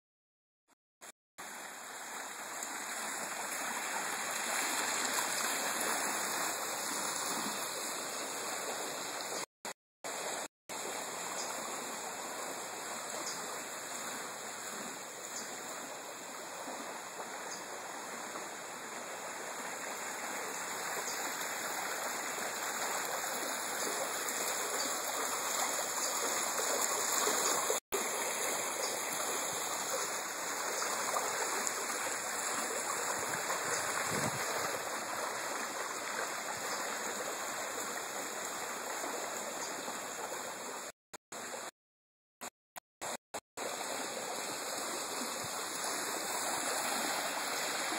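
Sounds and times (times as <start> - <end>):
running water: 1.4 - 9.5, 10.1 - 41.7, 43.0 - 47.9.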